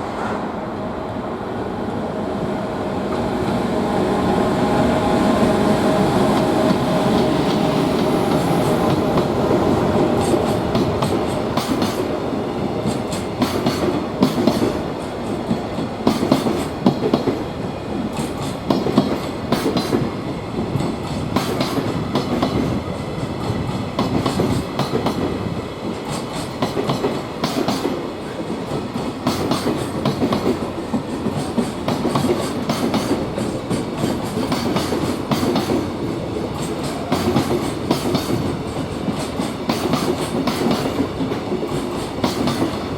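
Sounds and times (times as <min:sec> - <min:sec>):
train rumble: 0:00.0 - 0:42.9
freight train wheels clacking: 0:03.1 - 0:42.9.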